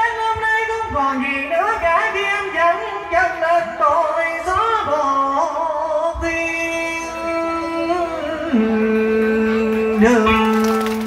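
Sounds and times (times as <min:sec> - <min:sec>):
man singing ornamented line: 0:00.0 - 0:11.0.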